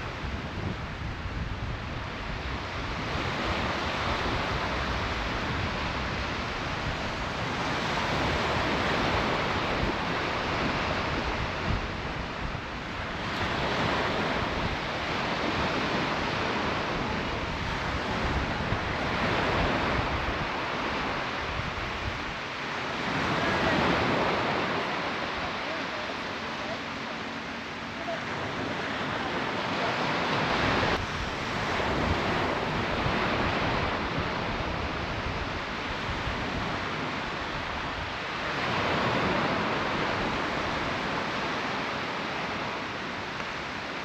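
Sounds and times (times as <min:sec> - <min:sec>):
surf breaking on a beach: 0:00.0 - 0:44.0
wind rumbling on microphone: 0:00.0 - 0:44.0.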